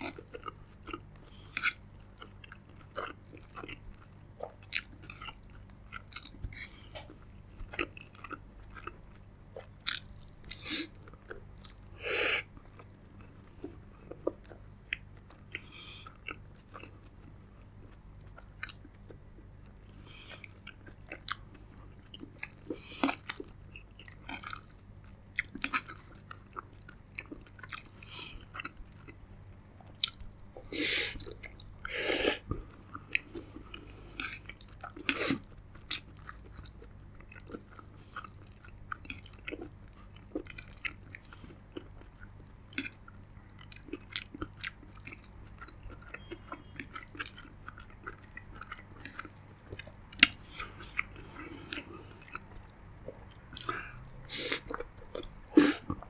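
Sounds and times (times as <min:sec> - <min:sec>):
chewing with wet mouth clicks: 0:00.0 - 0:29.2, 0:29.8 - 0:30.6, 0:31.2 - 0:56.0.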